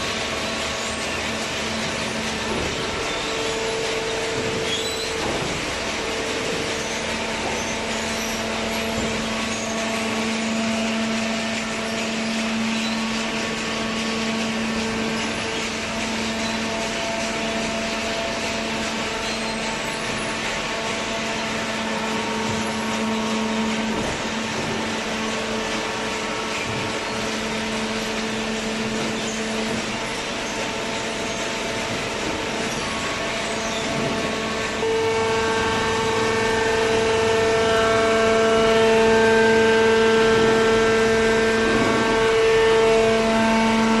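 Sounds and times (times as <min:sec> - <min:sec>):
baler motor and pump humming: 0:00.0 - 0:44.0.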